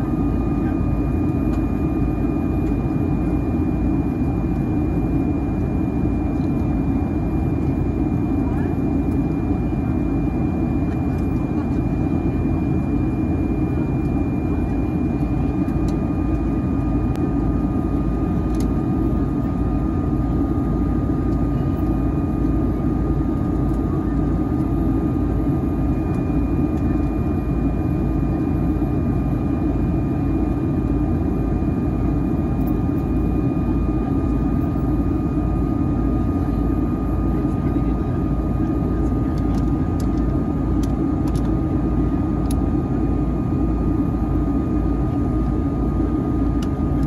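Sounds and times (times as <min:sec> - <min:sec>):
airplane cabin engine drone: 0:00.0 - 0:47.0
lower whine: 0:00.0 - 0:47.0
thin steady whine: 0:00.0 - 0:47.0.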